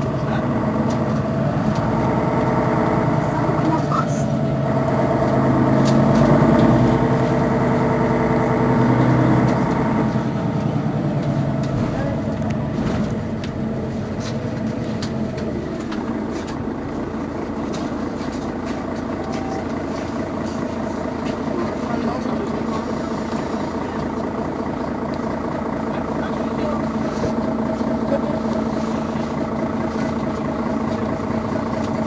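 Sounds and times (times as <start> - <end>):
bus engine idling: 0.0 - 32.0.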